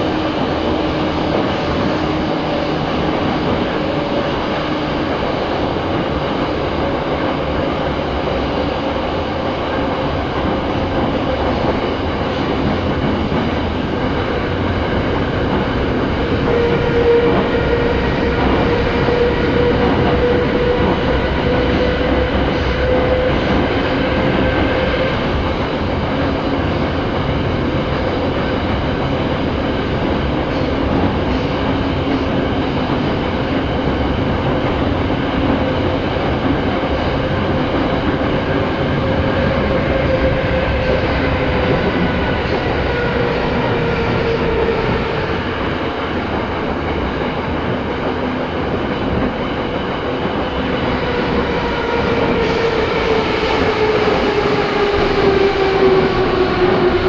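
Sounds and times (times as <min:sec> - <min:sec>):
metro train wheels rumbling: 0:00.0 - 0:57.0.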